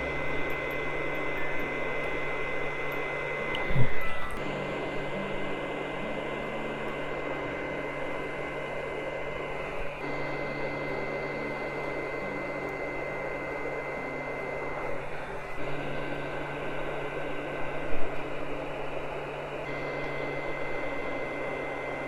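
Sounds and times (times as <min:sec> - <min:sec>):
thin high whine: 0:00.0 - 0:22.0.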